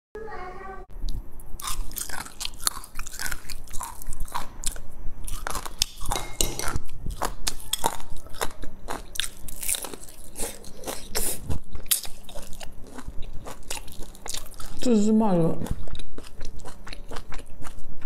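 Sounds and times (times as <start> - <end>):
crunching and chewing fritters: 1.5 - 18.0.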